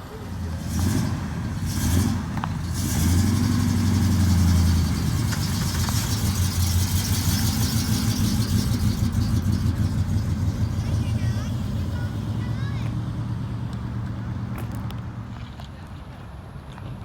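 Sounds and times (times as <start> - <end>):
car engine idling: 0.0 - 15.1.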